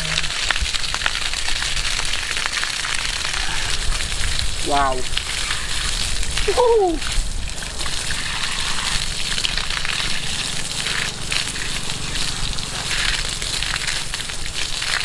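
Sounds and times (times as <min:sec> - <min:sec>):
water gushing and splashing: 0:00.0 - 0:15.0.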